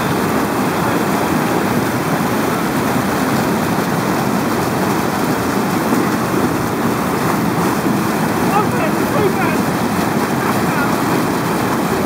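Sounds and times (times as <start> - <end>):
white water rushing: 0.0 - 12.0.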